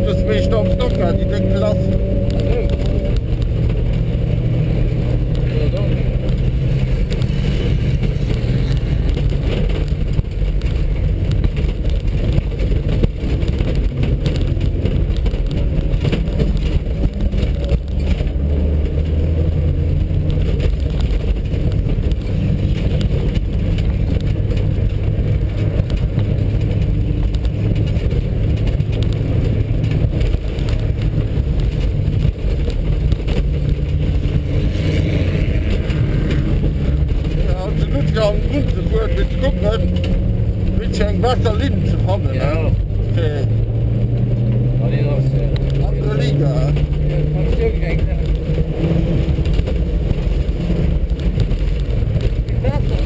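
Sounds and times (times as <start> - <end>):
car engine droning under load: 0.0 - 53.0
tyres rumbling on dirt track: 0.0 - 53.0.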